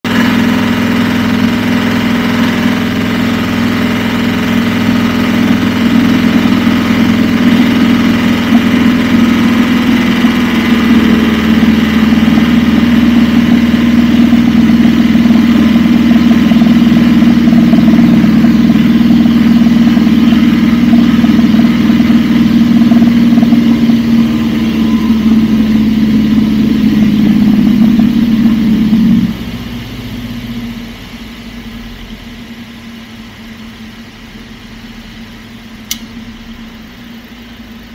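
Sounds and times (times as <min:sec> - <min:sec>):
motor glider engine drone: 0:00.1 - 0:37.9.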